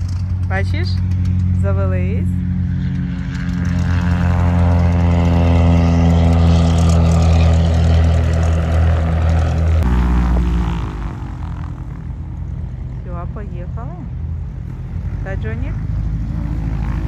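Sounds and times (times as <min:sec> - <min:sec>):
propeller airplane engine running: 0:00.0 - 0:17.0.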